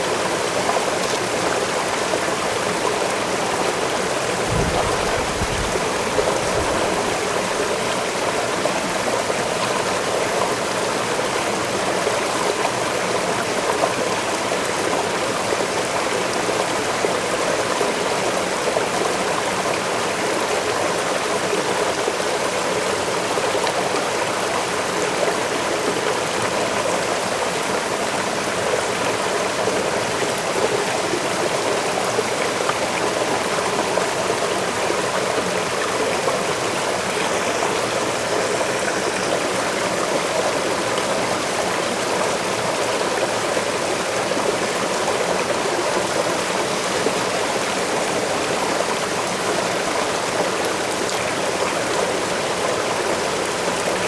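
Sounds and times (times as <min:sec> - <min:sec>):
waterfall and stream rushing: 0:00.0 - 0:54.0.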